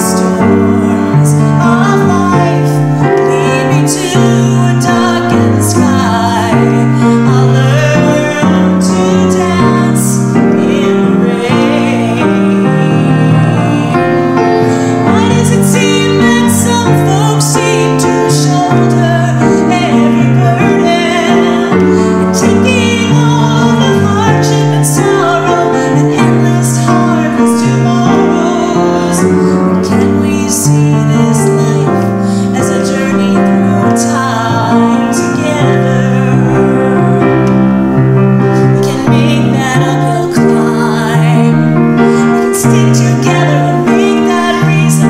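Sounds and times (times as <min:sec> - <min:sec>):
grand piano chords: 0:00.0 - 0:45.0
woman singing a slow song: 0:00.0 - 0:45.0.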